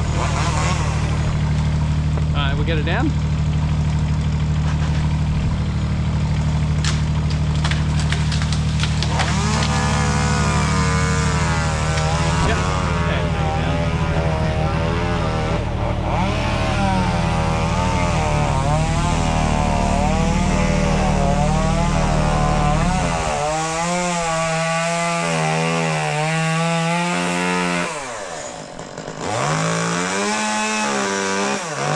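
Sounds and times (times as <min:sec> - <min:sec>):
chainsaw cutting: 0:00.0 - 0:31.9
deep engine drone: 0:00.0 - 0:31.9.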